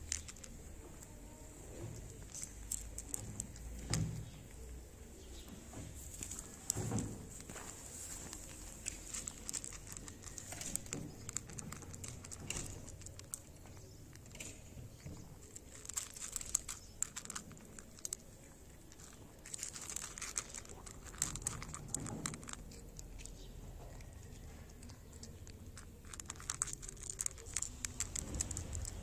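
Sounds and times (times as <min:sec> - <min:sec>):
cat crunching dry kibble: 0:00.0 - 0:29.0.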